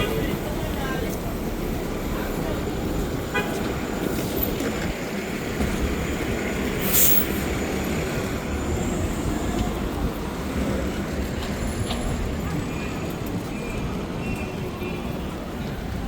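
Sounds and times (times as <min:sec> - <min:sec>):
heavy street traffic rumble: 0:00.0 - 0:16.0.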